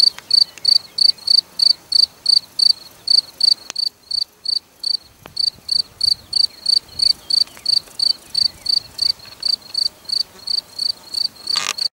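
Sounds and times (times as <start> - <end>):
cricket chirping: 0.0 - 11.9.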